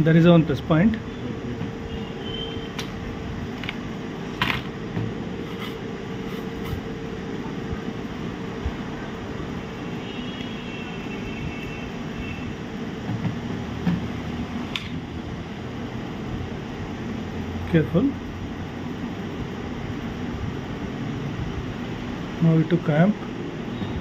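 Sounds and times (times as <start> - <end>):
ventilation hum: 0.0 - 24.0.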